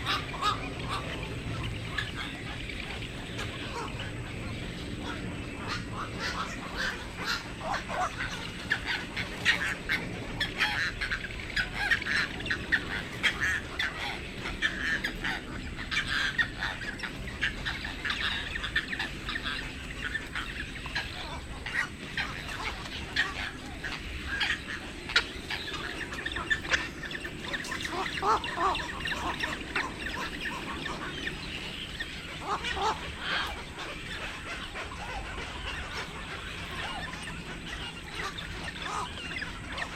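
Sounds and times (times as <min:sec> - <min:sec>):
flock of birds calling: 0:00.0 - 0:39.9.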